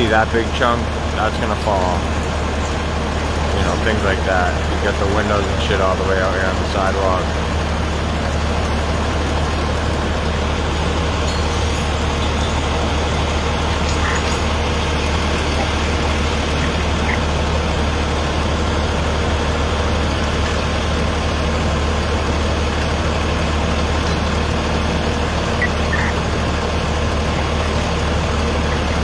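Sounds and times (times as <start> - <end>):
heavy vehicle engine idling: 0.0 - 29.0.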